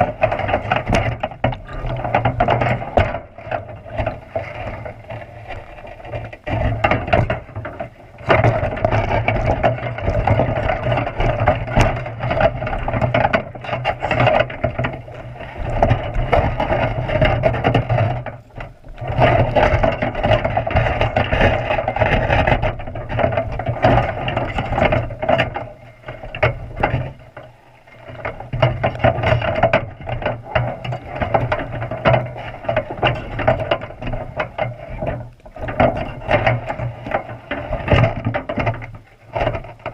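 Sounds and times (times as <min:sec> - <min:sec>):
muffled underwater rattling and knocking: 0:00.0 - 0:39.9.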